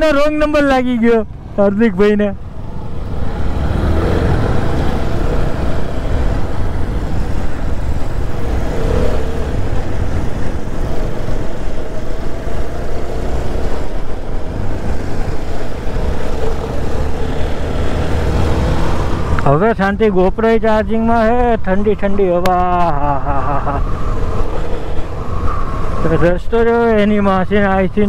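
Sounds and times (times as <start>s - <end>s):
wind rushing over microphone: 2.2s - 28.0s.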